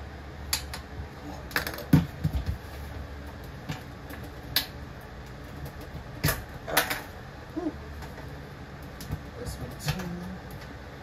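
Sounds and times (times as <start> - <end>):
fan parts clicking and knocking: 0.5 - 7.2, 8.0 - 10.8.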